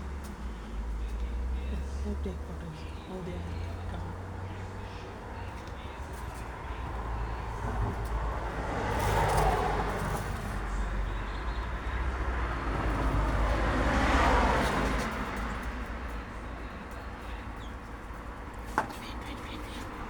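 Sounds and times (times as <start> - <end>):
cars passing by: 0.0 - 20.0
steady low traffic rumble: 0.0 - 20.0.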